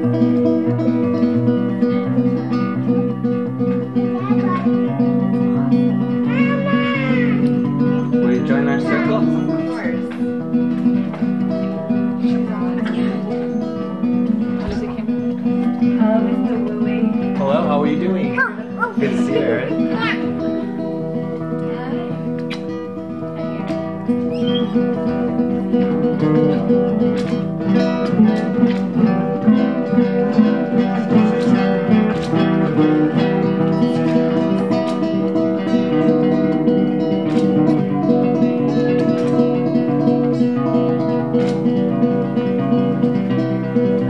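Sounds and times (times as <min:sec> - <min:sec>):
acoustic guitar playing: 0:00.0 - 0:44.0.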